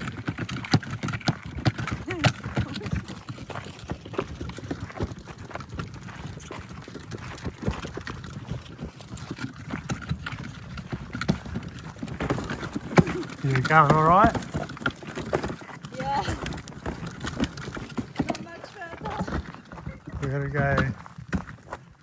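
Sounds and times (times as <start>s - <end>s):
footsteps on dirt track: 0.0s - 22.0s.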